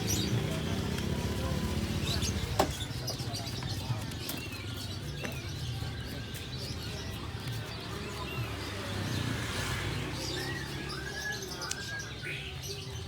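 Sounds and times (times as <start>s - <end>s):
murmur of voices: 0.0s - 13.0s
small birds chirping: 0.0s - 13.0s.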